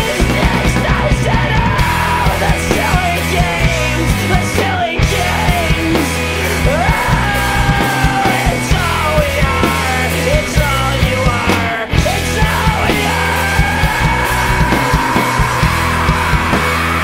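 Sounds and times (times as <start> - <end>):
loud rock band music: 0.0 - 17.0.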